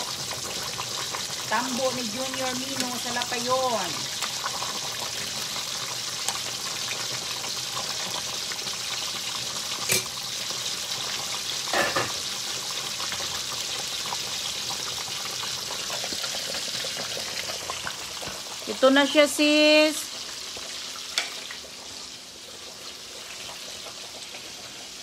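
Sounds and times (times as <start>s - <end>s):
fish frying in hot oil: 0.0s - 25.0s.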